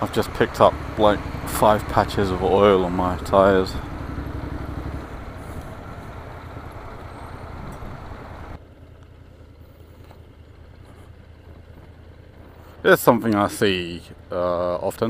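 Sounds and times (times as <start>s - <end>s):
motorcycle engine: 0.0s - 15.0s
road noise: 0.0s - 15.0s.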